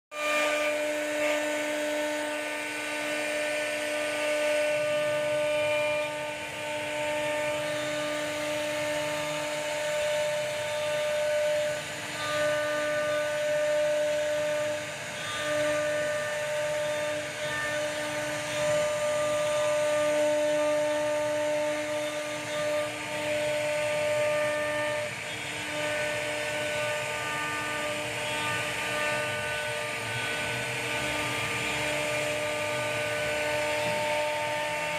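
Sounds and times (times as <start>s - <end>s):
router spindle whine cutting wood: 0.1s - 34.9s.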